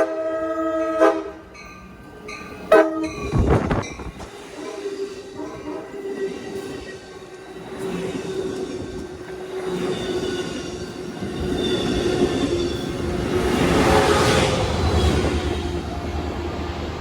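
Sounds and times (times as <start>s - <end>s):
train rumbling: 0.0s - 17.0s
wheels squealing on rails: 0.8s - 17.0s.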